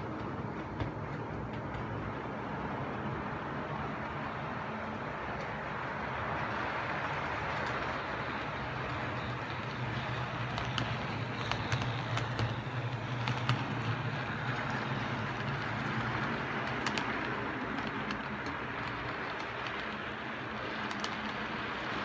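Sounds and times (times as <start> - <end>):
clicks over rail joints: 0.0 - 2.3, 6.4 - 22.0
train wheels rolling: 0.0 - 22.0.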